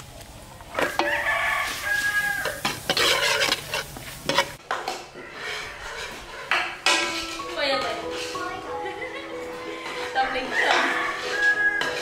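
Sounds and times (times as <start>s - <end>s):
sizzle from hot pot: 0.0s - 12.0s
metal ladle scraping a pot: 0.8s - 8.7s, 9.6s - 12.0s.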